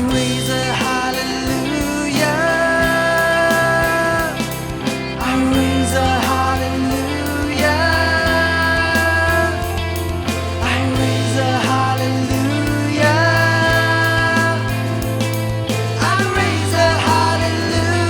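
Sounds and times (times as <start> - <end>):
worship band music: 0.0 - 18.0.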